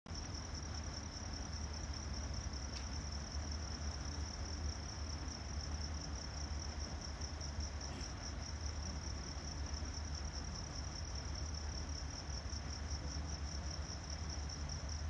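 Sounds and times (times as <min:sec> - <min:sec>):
crickets chirping: 0:00.1 - 0:15.0.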